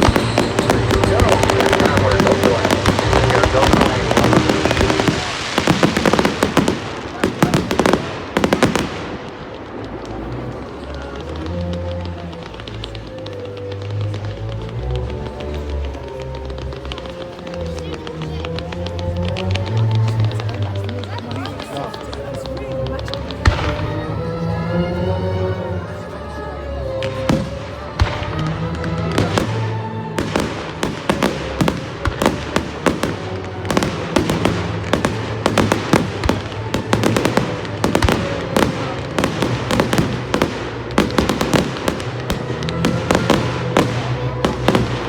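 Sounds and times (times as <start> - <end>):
fireworks crackling and popping: 0.0 - 45.0
music through a pa: 0.0 - 45.0.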